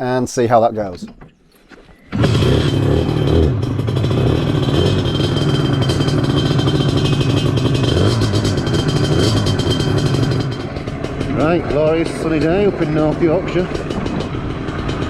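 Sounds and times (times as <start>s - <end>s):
scooter engine running: 2.1s - 15.0s.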